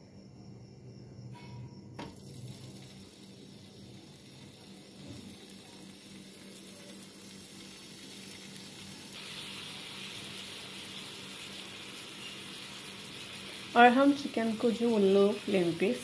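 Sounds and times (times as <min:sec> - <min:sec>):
chicken sizzling in hot oil: 0:02.0 - 0:16.0.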